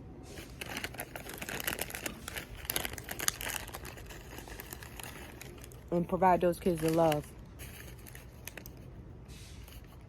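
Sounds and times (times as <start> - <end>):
crinkling and crackling: 0.4 - 9.0.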